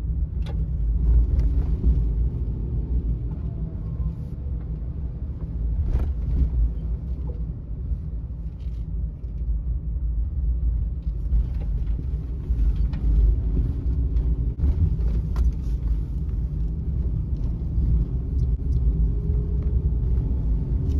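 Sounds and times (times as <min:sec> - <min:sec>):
road noise: 0:00.0 - 0:20.9
van engine low rumble: 0:00.0 - 0:20.9.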